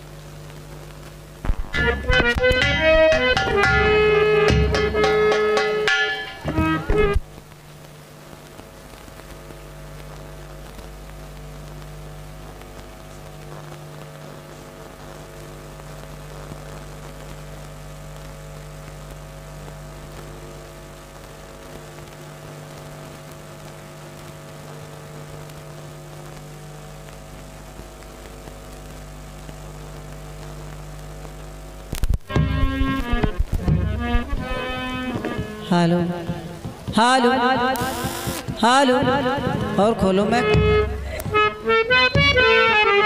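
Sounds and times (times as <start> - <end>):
electrical mains hum: 0.0 - 43.0
sound system hiss: 0.0 - 43.0.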